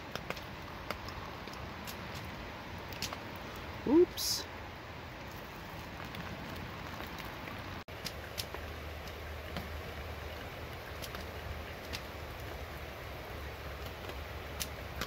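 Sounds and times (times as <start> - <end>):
water drips ticking: 0.0 - 3.9, 5.2 - 15.0
light rain pattering: 0.0 - 15.0.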